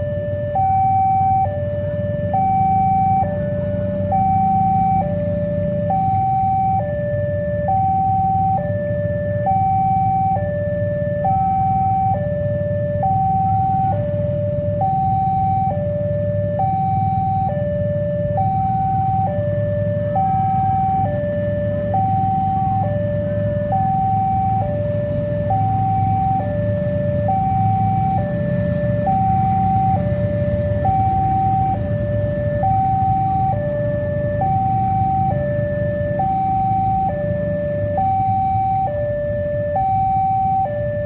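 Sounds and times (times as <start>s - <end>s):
level-crossing siren two-tone: 0.0s - 41.0s.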